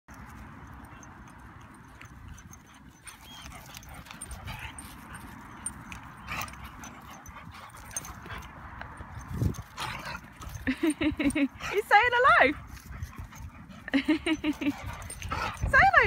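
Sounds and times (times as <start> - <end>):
dogs playing: 0.1 - 16.0.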